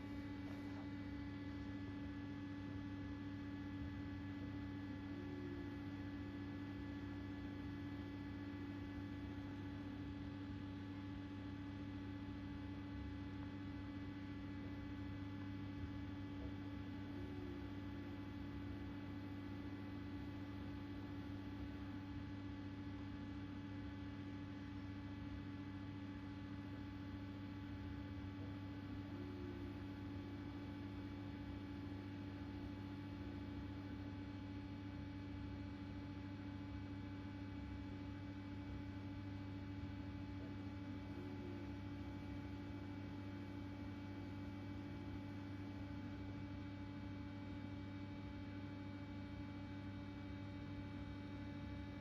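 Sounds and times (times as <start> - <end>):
washing machine humming: 0.0 - 52.0.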